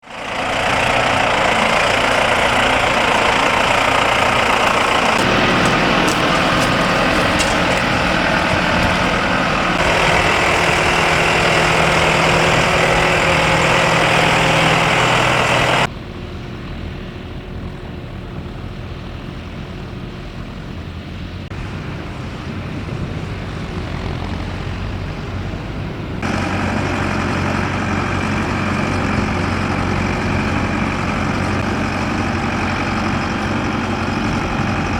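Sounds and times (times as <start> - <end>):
tractor engines under load: 0.0 - 34.9.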